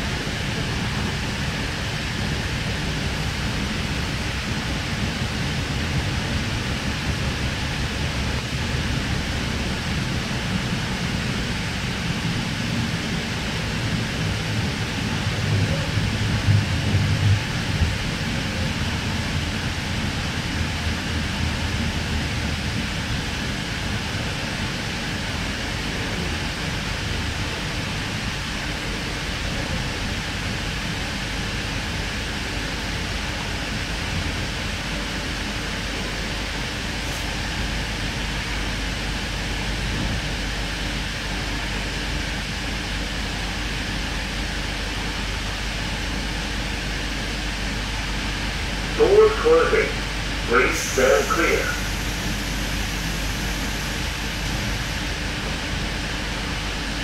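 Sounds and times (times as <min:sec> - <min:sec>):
train cabin rumble and hiss: 0:00.0 - 0:57.0.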